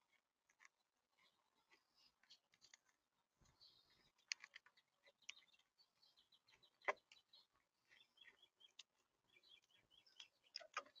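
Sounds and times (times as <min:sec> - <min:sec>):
faint bird chirps: 0:00.7 - 0:11.0.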